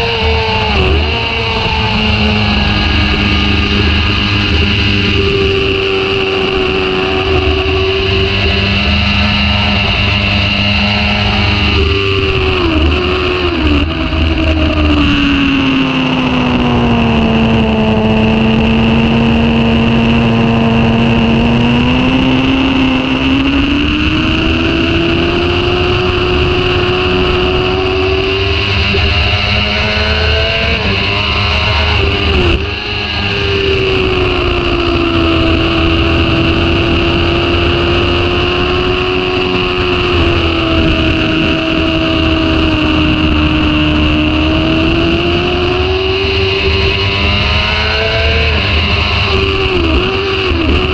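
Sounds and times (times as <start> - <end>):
motorcycle engine running hard: 0.0 - 50.9
wind rush: 0.0 - 50.9.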